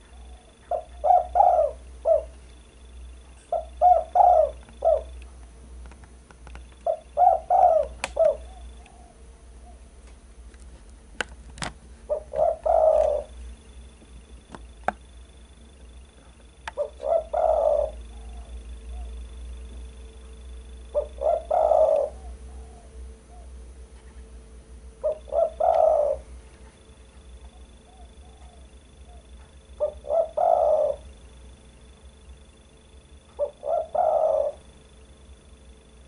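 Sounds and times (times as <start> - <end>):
dove cooing: 0.0 - 5.4, 6.6 - 10.0, 12.0 - 23.6, 24.9 - 36.0.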